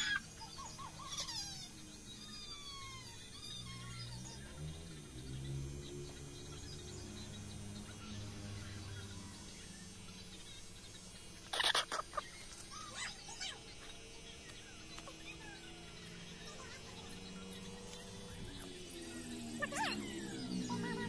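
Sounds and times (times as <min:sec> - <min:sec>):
bird chirps: 0:00.0 - 0:21.0.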